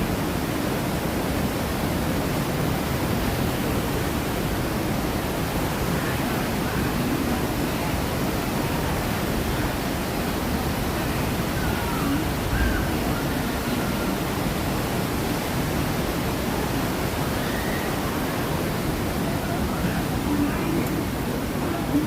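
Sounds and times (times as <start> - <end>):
faint distant voices: 0.0 - 22.0
rapids rushing water: 0.0 - 22.0.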